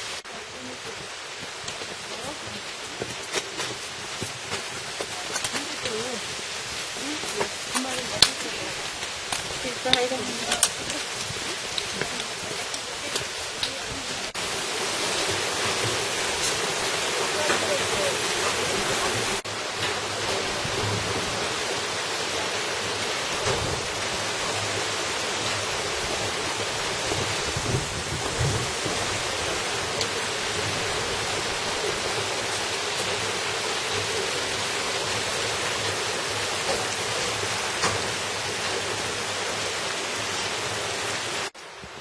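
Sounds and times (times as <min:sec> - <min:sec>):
stream rushing: 0:00.0 - 0:42.0.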